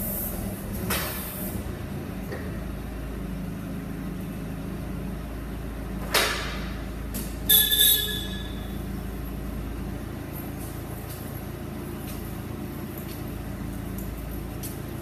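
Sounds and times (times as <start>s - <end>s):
forklift engine idling: 0.0s - 15.0s.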